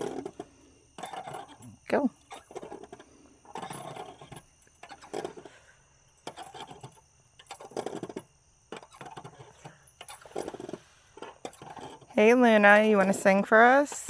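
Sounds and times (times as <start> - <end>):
swing chains creaking: 0.0 - 14.0.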